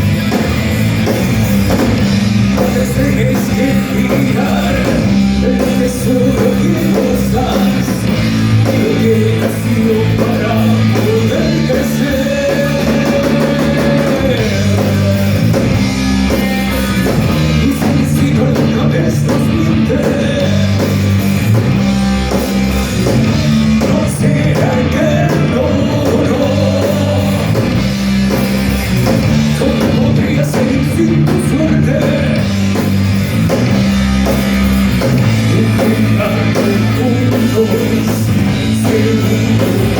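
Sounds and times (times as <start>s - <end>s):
bass guitar: 0.0s - 39.9s
distorted electric guitars: 0.0s - 39.9s
drums: 0.0s - 39.9s.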